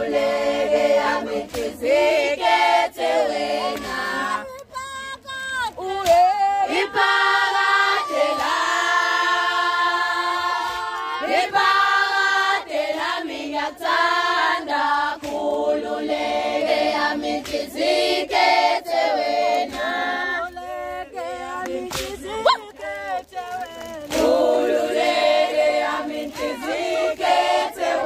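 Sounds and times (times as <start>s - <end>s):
women singing unaccompanied: 0.0s - 28.0s.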